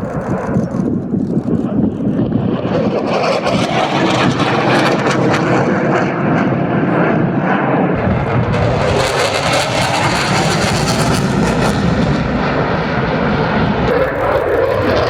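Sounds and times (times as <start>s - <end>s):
fighter jet passing: 0.0s - 15.0s.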